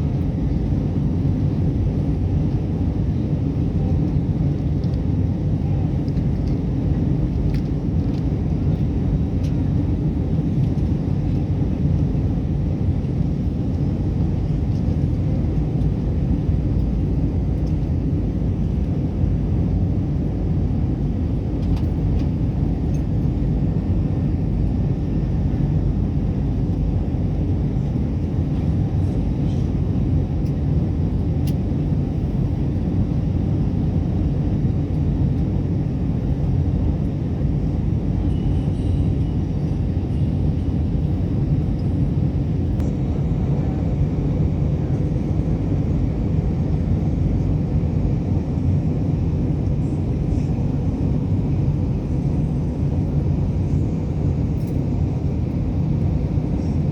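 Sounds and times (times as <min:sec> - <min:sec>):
airliner cabin jet engine drone: 0:00.0 - 0:56.9.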